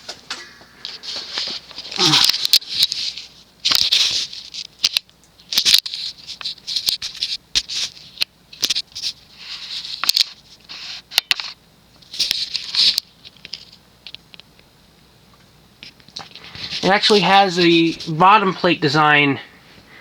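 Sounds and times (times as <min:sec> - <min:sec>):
ceiling fan motor hum: 0:00.0 - 0:20.0
rustling and crackling bursts: 0:00.0 - 0:20.0.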